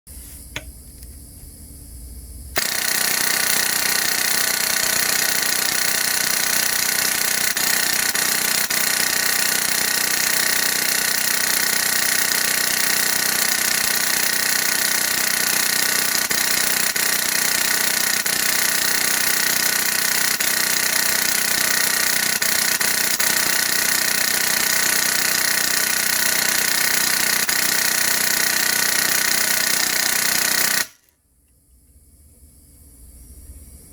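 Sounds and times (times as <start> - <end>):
airsoft machine gun full-auto burst: 2.6 - 31.1.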